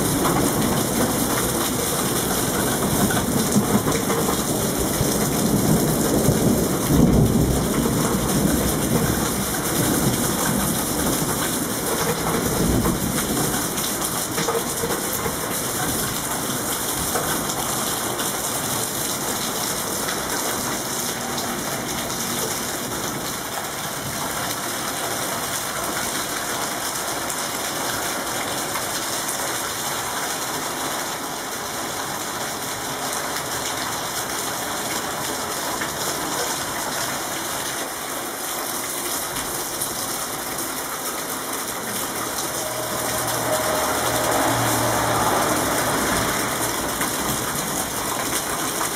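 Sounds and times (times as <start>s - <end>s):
rain pattering on surfaces: 0.0s - 48.9s.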